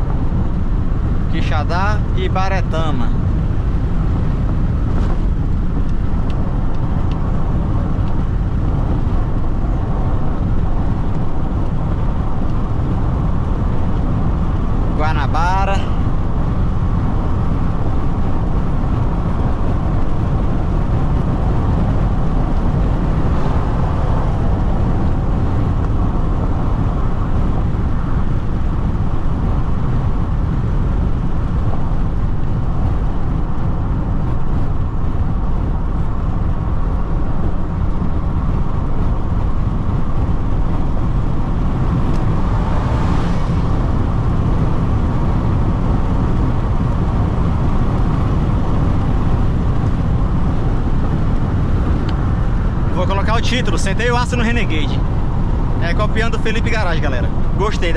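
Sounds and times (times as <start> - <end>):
engine and road rumble: 0.0 - 57.9.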